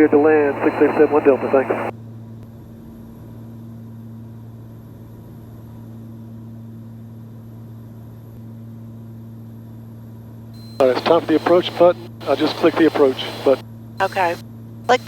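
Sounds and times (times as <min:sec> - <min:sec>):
aircraft engines droning in cabin: 0:00.0 - 0:15.0.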